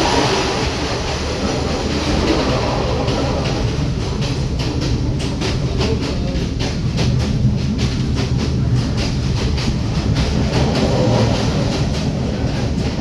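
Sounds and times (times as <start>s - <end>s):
train rumbling along track: 0.0s - 13.0s
wheels clacking over rail joints: 0.0s - 13.0s.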